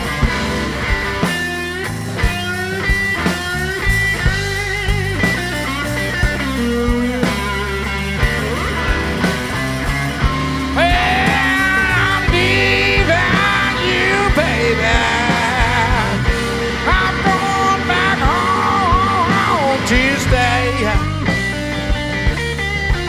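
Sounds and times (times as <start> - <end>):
bass guitar: 0.0 - 23.0
drums: 0.0 - 23.0
electric guitar: 0.0 - 23.0.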